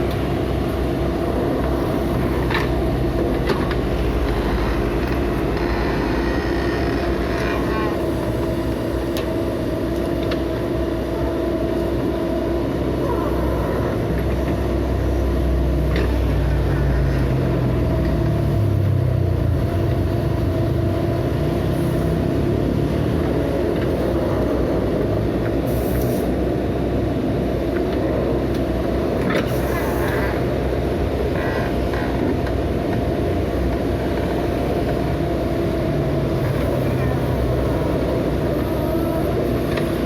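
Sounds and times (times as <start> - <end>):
diesel engine running under load: 0.0 - 40.0
steady whine: 0.0 - 40.0.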